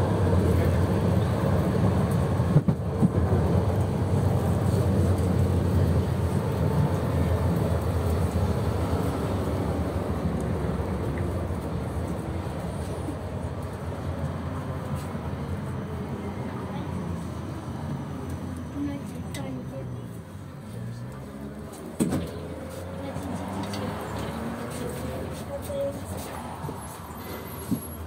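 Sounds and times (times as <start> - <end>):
tram rumbling on rails: 0.0 - 28.0.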